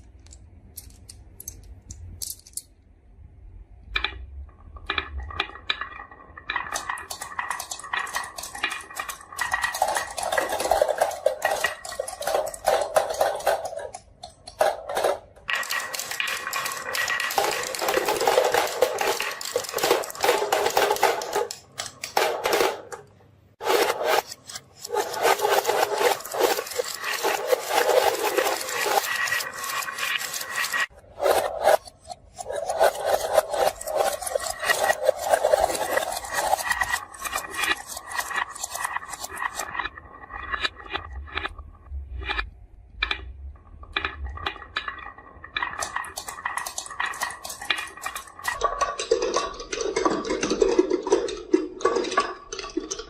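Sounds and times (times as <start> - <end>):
marbles clattering down wooden run: 4.9 - 23.0, 23.6 - 41.4, 44.0 - 52.8.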